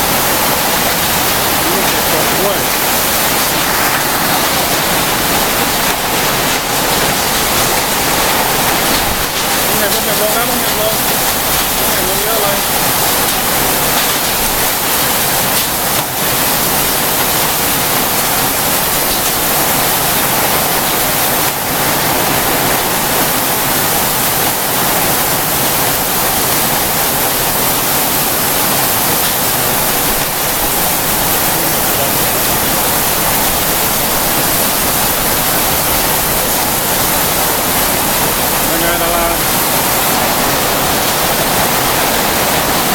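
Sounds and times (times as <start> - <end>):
heavy rain and hail: 0.0 - 42.9.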